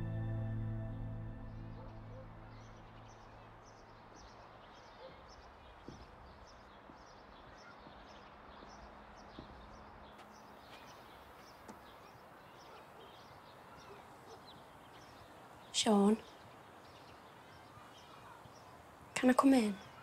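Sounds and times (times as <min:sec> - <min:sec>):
small birds chirping: 0:01.8 - 0:20.0.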